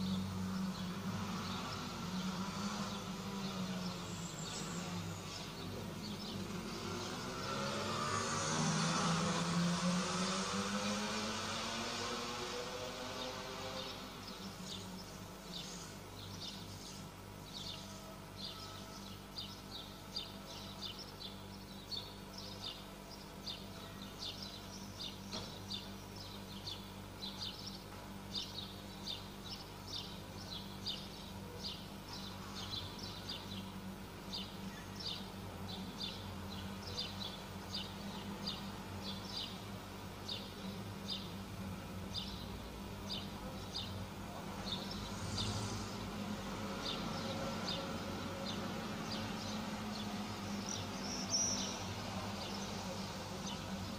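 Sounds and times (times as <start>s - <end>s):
small birds chirping: 0.0s - 9.6s, 10.7s - 53.9s.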